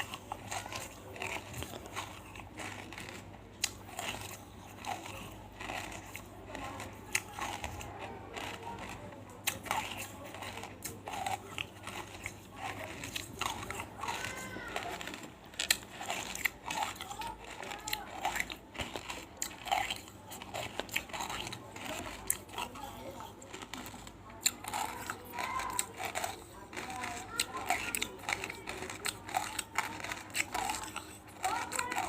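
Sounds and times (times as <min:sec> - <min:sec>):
crunching hard pieces in mouth: 0:00.0 - 0:32.0.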